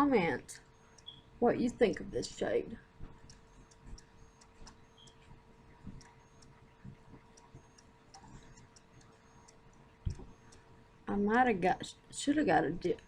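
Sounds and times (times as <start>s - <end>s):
low steady hum: 0.0s - 13.0s
faint light ticking: 0.5s - 11.5s.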